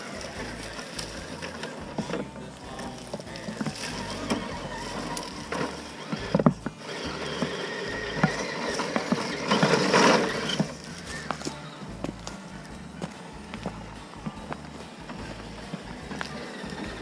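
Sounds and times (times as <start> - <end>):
electric motor whine: 0.0 - 17.0
truck scrabbling: 0.0 - 17.0.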